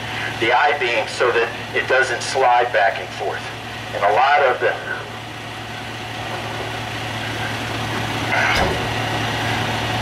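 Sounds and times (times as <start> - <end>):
large diesel engine idling: 0.0 - 10.0.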